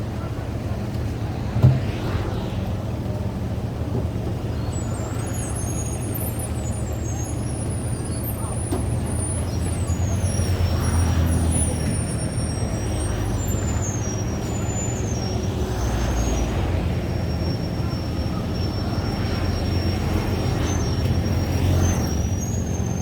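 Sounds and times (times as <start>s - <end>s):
engines droning: 0.0s - 23.0s
faint high whistling tones: 4.2s - 23.0s.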